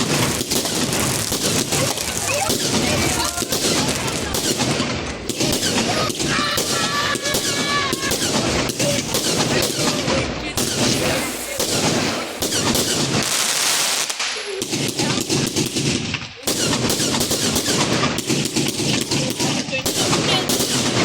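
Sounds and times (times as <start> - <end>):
fireworks barrage: 0.0 - 21.0.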